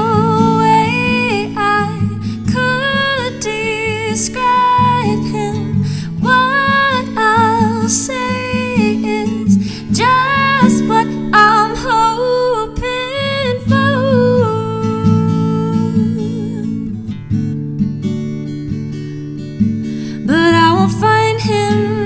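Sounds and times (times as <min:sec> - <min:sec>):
woman singing: 0:00.0 - 0:17.0, 0:20.1 - 0:22.0
acoustic guitar: 0:00.0 - 0:22.0.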